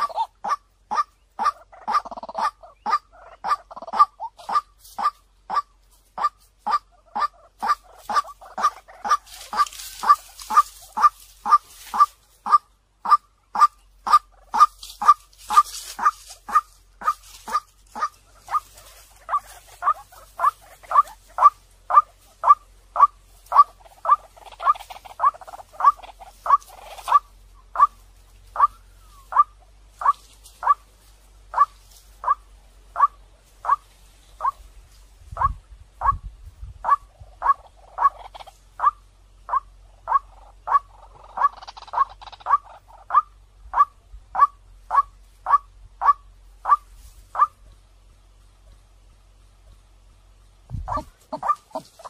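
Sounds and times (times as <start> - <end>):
waterhen calling: 0.0 - 36.2, 36.8 - 47.6, 50.7 - 52.0.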